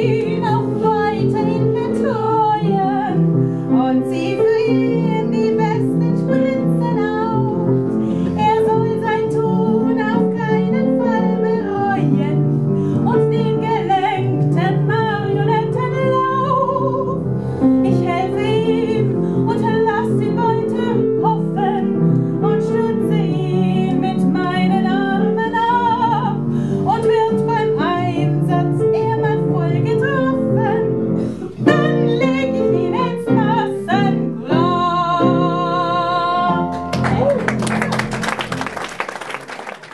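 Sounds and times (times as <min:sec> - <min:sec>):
woman singing: 0:00.0 - 0:17.2, 0:17.8 - 0:37.5
piano accompaniment: 0:00.0 - 0:39.9.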